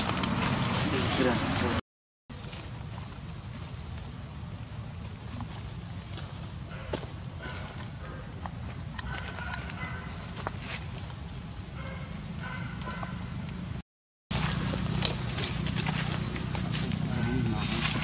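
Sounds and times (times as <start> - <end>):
high insect drone: 2.3 - 18.0.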